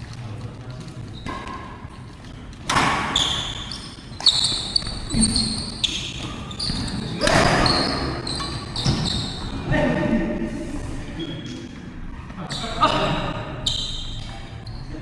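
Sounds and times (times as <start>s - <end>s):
shoes squeaking on court floor: 0.8s - 9.6s, 10.8s - 15.0s.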